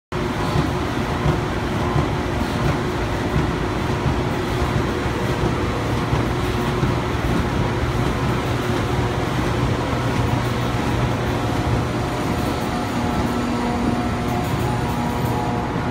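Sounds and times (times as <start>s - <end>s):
printing machine running: 0.2s - 15.9s
regular mechanical beat: 0.4s - 15.9s.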